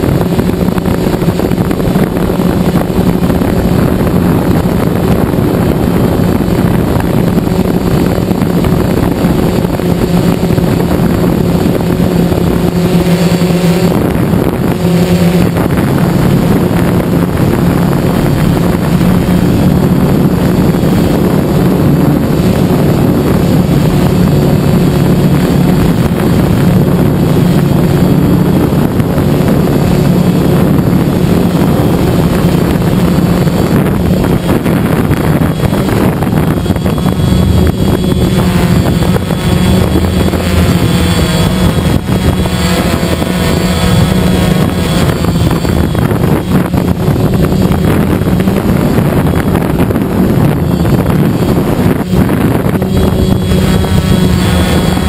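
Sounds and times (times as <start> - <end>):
drone propellers buzzing: 0.0 - 55.0
high wavering whine: 0.0 - 55.0
wind noise on microphone: 0.0 - 55.0.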